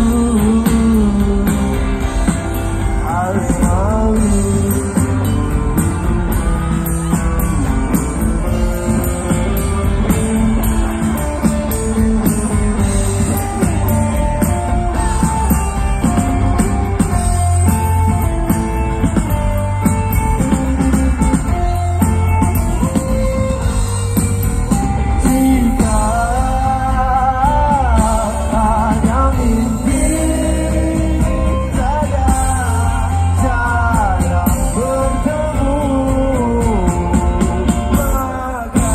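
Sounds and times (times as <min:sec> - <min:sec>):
person singing melodic vocals: 0:00.0 - 0:18.1, 0:24.6 - 0:38.9
live rock band playing: 0:00.0 - 0:38.9.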